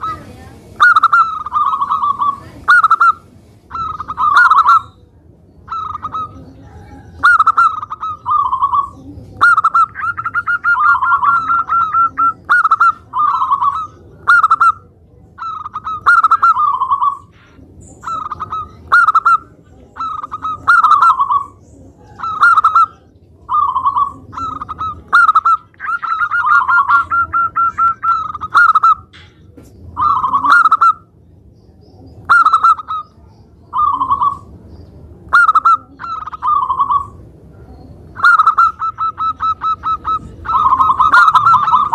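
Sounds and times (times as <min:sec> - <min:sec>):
dove cooing: 0:00.0 - 0:31.2, 0:31.9 - 0:41.9
dove rolling trill: 0:00.0 - 0:41.9.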